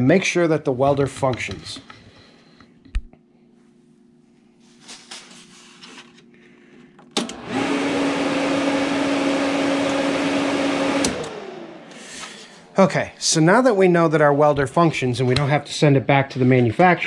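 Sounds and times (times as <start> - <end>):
cooling fan rushing and humming: 0.0 - 17.0.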